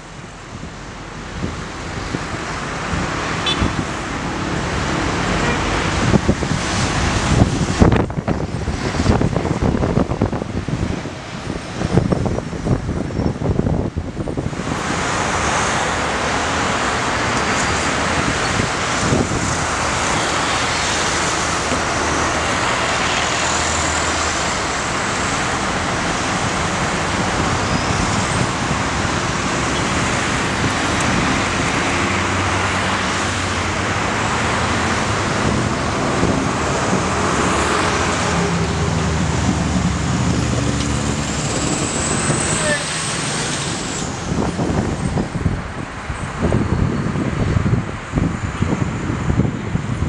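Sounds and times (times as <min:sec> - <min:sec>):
road traffic noise: 0:00.0 - 0:50.0.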